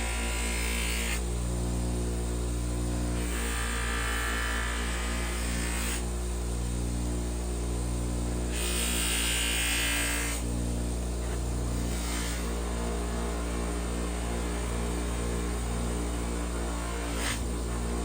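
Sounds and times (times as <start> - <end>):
grinding hiss: 0.0 - 1.6, 2.5 - 6.7, 8.4 - 18.0
power tool motor humming: 0.0 - 1.9, 2.9 - 6.7, 8.3 - 18.0.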